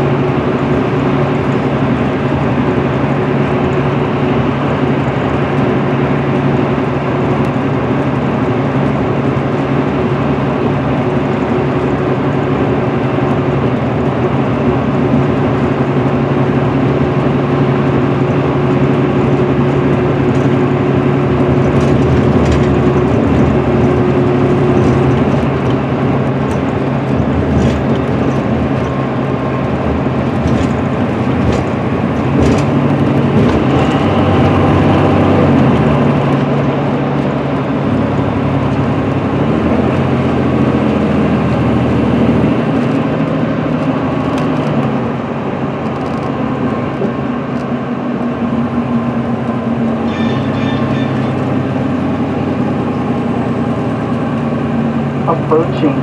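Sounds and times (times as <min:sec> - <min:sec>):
diesel engine drone: 0:00.0 - 0:56.0
tyre and road noise: 0:00.0 - 0:56.0.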